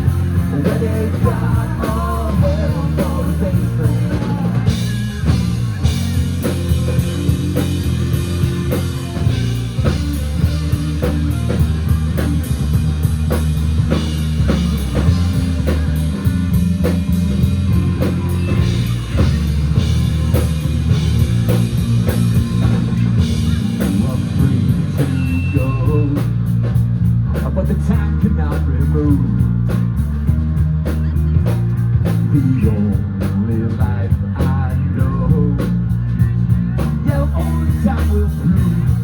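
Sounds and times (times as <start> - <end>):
bass guitar: 0.0 - 39.0
drum kit beat: 0.0 - 39.0
electric guitars: 0.0 - 39.0.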